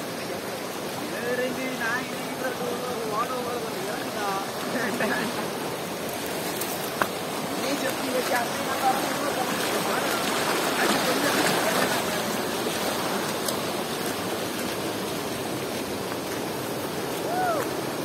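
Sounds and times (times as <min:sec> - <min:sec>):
river rushing over falls: 0:00.0 - 0:18.0.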